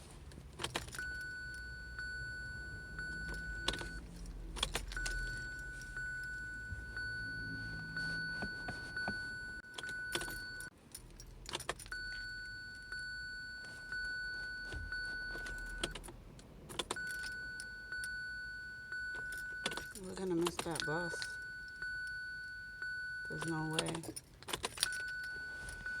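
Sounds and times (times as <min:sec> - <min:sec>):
car keys jangling in ignition: 0:00.0 - 0:26.0.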